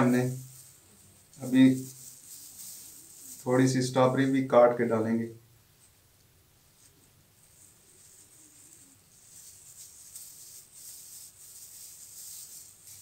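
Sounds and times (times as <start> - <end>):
plastic gloves rustling: 0.0 - 4.9, 5.6 - 13.0.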